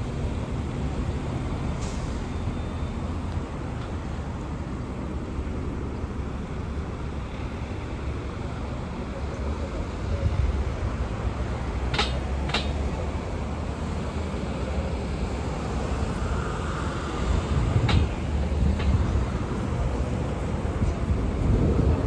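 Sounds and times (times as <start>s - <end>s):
passing vehicles rumbling: 0.0s - 22.0s.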